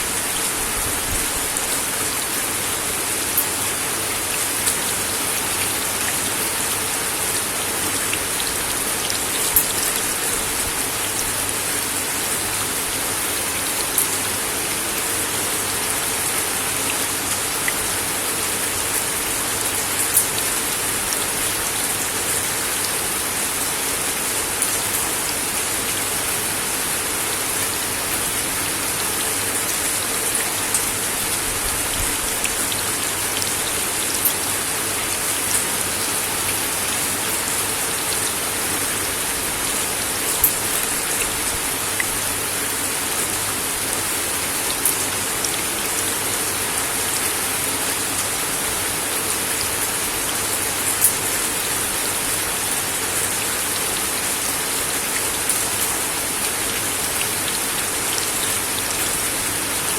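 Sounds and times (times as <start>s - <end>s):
rain on a wooden deck: 0.0s - 59.9s.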